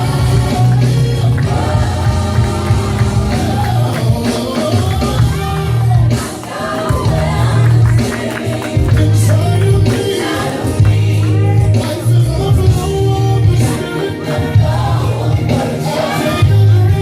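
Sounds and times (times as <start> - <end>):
gospel singing with band: 0.0 - 17.0
strong bass line: 0.0 - 17.0.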